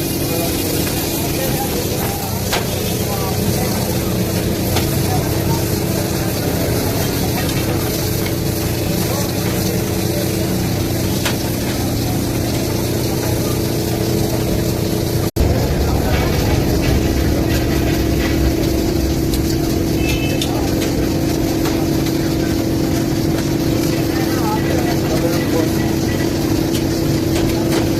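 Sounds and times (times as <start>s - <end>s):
low din of voices: 0.0s - 27.9s
steady mechanical hum: 0.0s - 27.9s.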